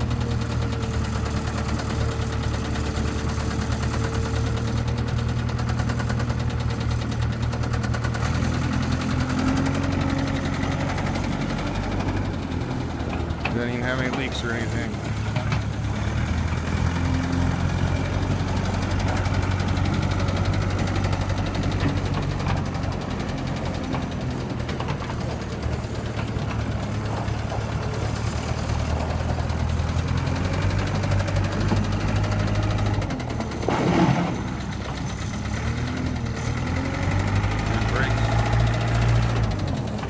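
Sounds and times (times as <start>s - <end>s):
diesel engine idling: 0.0s - 40.0s
engine knock: 0.0s - 40.0s.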